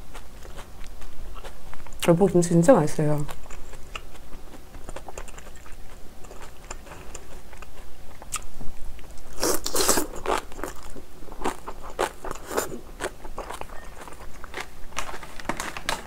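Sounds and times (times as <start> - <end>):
crunching and chewing: 0.0 - 2.2, 3.2 - 16.0.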